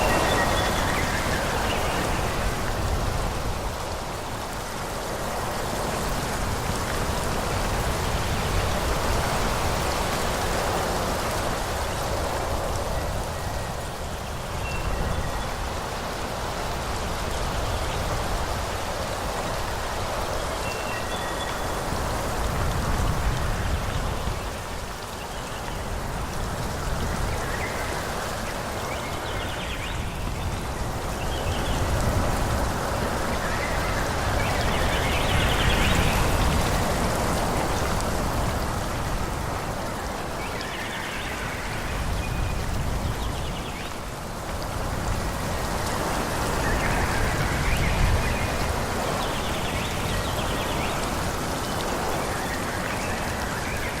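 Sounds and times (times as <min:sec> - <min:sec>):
wind through trees: 0:00.0 - 0:54.0.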